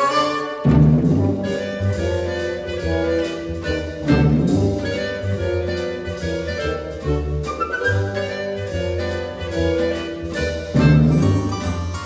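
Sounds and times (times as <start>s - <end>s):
orchestral music with brass: 0.0s - 12.0s.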